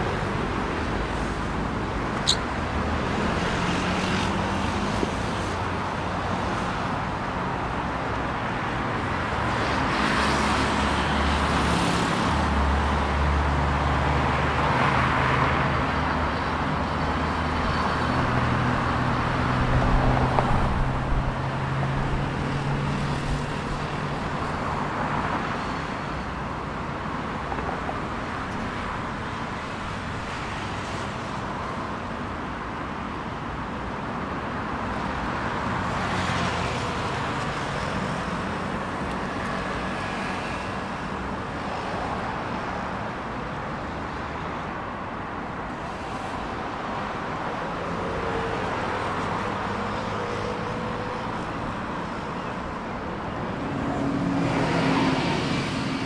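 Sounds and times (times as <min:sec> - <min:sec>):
cars passing with tyre noise: 0:00.0 - 0:56.0.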